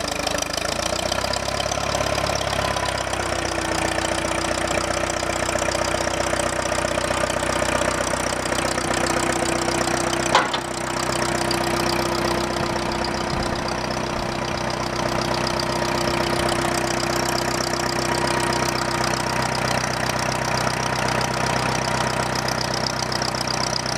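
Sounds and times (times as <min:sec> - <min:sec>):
backhoe engine running: 0:00.0 - 0:23.9.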